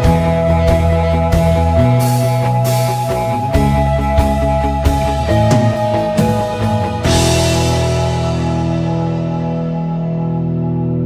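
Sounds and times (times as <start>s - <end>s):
guitar chord ringing: 0.0s - 11.0s.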